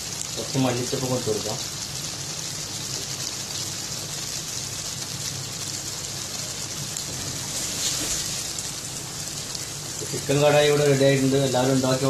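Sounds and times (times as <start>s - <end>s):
curry sizzling and bubbling: 0.0s - 12.0s.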